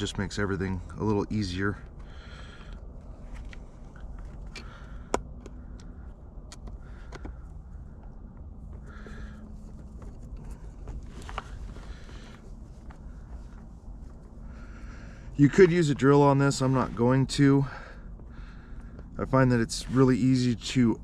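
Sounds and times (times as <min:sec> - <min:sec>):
low steady background: 0:00.0 - 0:21.0.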